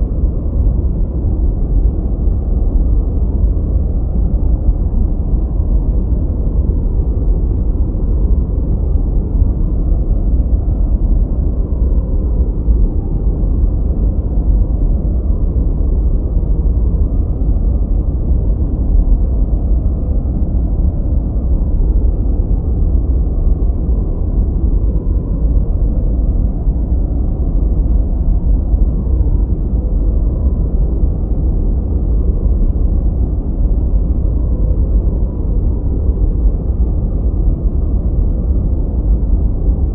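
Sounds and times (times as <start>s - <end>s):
deep muffled white noise: 0.0s - 39.9s.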